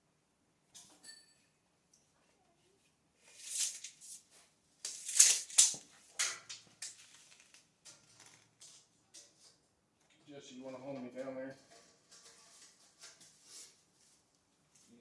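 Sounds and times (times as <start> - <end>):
rustling and scraping of handled things: 0.8 - 15.0.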